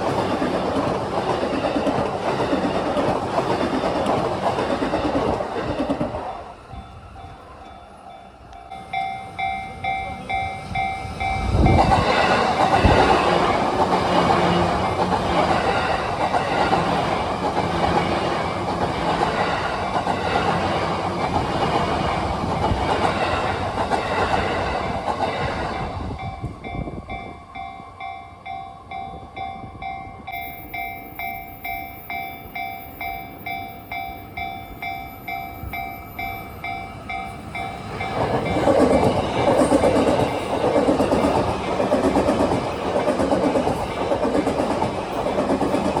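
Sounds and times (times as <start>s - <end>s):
electric train passing: 0.0s - 46.0s.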